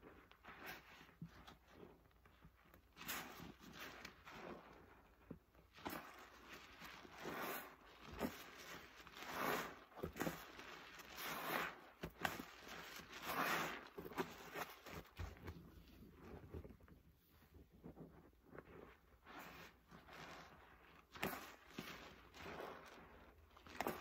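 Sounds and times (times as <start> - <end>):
sponge squishing in soapy water: 0.0 - 24.0.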